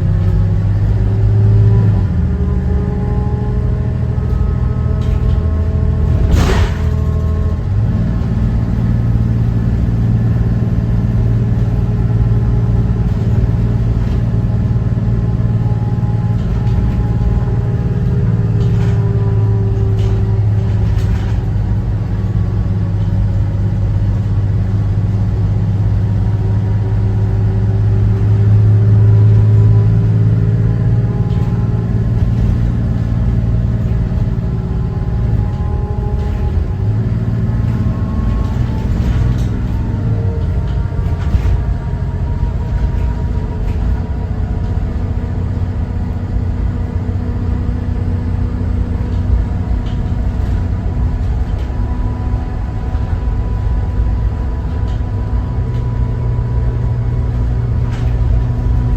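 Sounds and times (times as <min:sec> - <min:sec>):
bus diesel engine running: 0:00.0 - 0:58.9.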